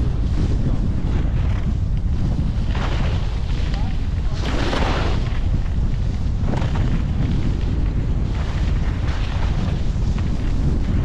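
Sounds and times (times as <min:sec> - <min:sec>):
skis scraping over snow: 0:00.0 - 0:11.0
wind buffeting microphone: 0:00.0 - 0:11.0.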